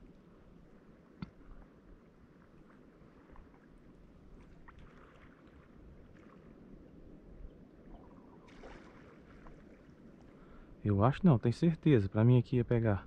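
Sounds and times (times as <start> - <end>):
seawater lapping: 0.1 - 10.8.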